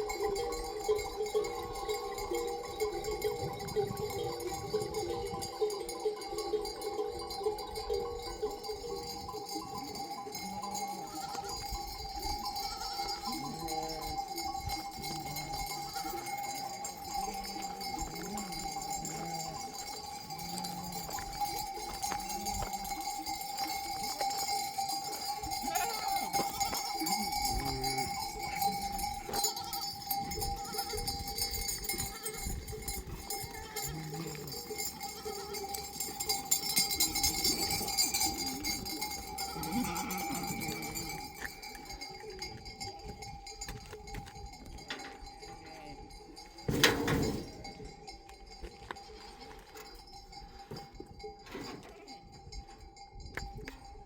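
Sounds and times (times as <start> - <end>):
animal bells clanking: 0.0 - 54.0.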